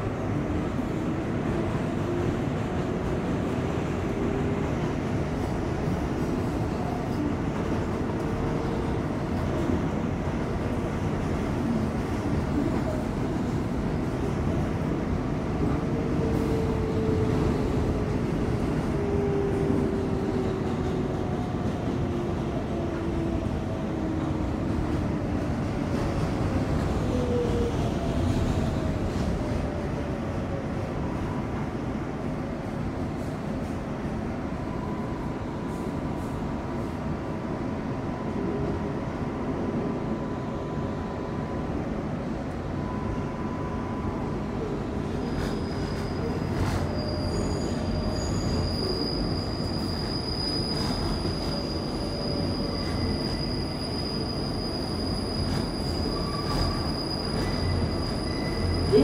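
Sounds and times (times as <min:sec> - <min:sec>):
subway car wheels rumbling: 0:00.0 - 0:59.0.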